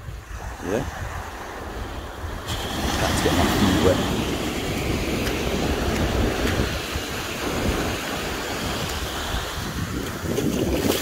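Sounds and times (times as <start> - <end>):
surf washing over sand: 0.0 - 11.0
wind rumbling on microphone: 0.0 - 11.0.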